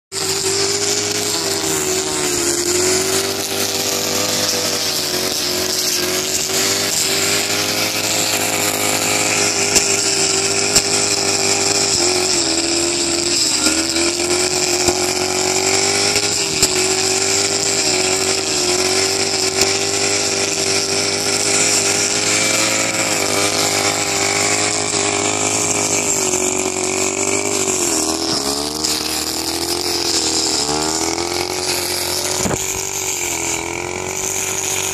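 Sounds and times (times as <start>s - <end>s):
brush cutter engine running: 0.1s - 34.9s.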